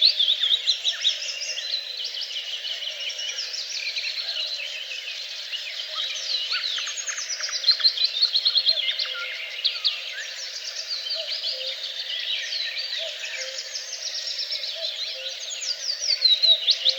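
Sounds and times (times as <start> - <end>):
songbirds chirping and trilling: 0.0 - 16.9.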